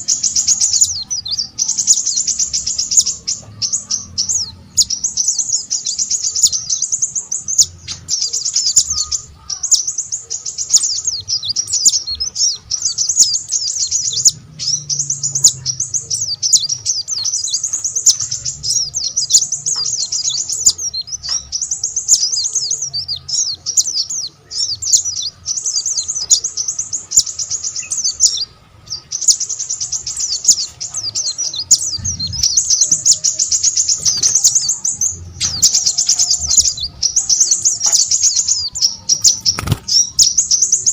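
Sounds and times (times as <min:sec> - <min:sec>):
songbird twittering: 0:00.0 - 0:40.9.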